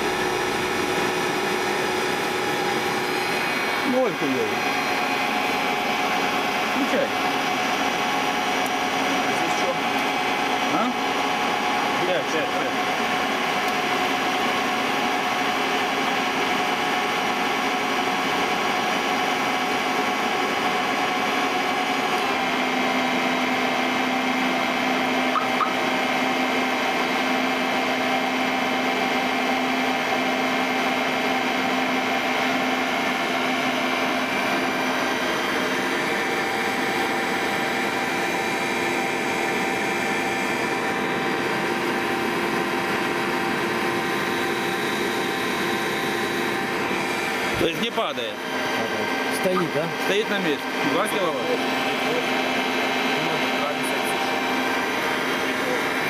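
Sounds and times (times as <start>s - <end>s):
electric motor whining and humming: 0.0s - 56.0s.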